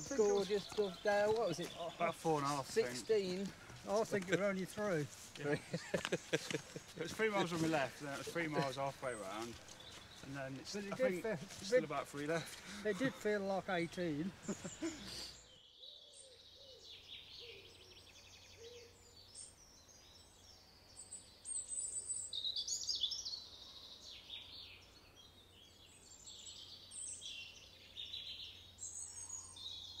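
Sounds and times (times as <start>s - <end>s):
songbirds singing and chirping: 0.0s - 30.0s.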